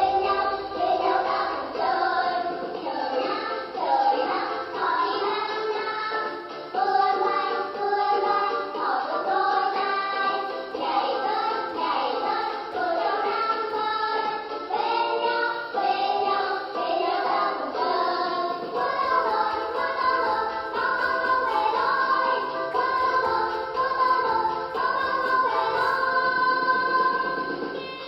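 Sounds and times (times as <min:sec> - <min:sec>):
children's song with instruments: 0:00.0 - 0:28.0.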